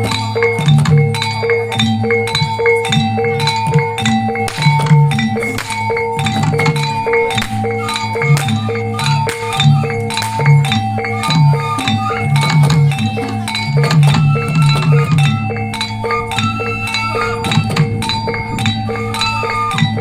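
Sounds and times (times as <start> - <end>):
drum beats: 0.0 - 20.0
sharp clattering strikes: 0.0 - 20.0
tuned gongs ringing: 0.0 - 20.0.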